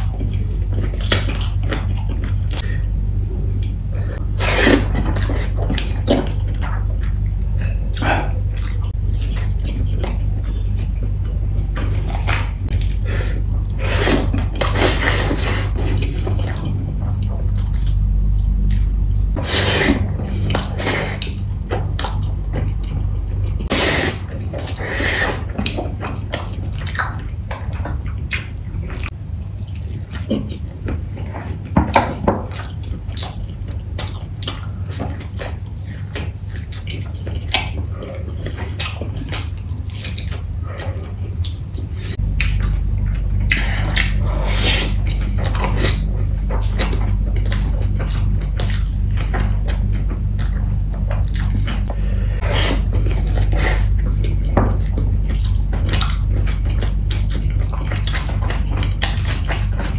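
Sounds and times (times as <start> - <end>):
person chewing and lip smacking: 0.0 - 59.9
steady low hum: 0.0 - 59.9.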